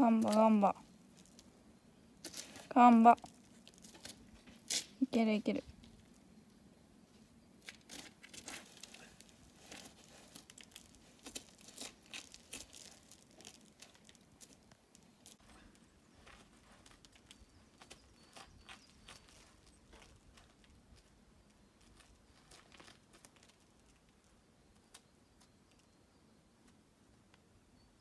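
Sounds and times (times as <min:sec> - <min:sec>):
faint crackles and rustles: 0:00.0 - 0:26.0.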